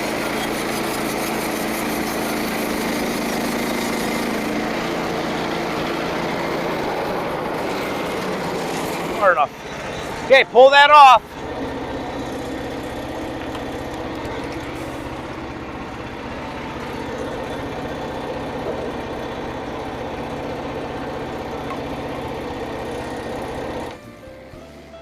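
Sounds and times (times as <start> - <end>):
small gasoline engine running: 0.0 - 25.0.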